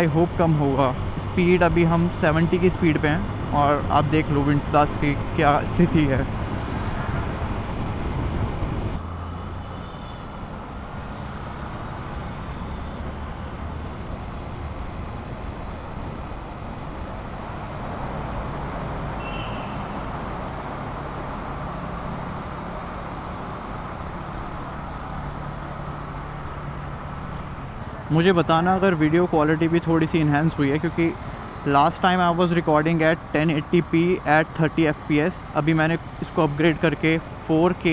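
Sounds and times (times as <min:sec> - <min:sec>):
motorcycle engine humming: 0:00.0 - 0:37.9
wind and road noise: 0:00.0 - 0:37.9.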